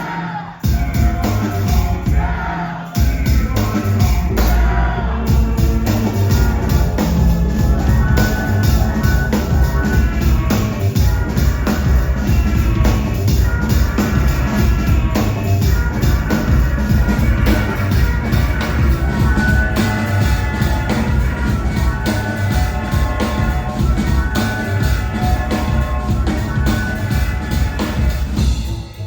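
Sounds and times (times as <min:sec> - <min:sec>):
drum kit beating: 0:00.0 - 0:29.0
live rock band: 0:00.0 - 0:29.0.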